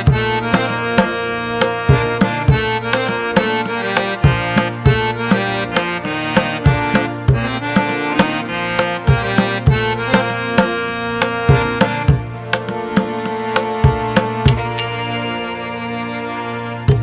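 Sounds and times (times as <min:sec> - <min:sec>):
tabla-like drum strikes: 0:00.0 - 0:14.9
sustained instrumental notes: 0:00.0 - 0:17.0.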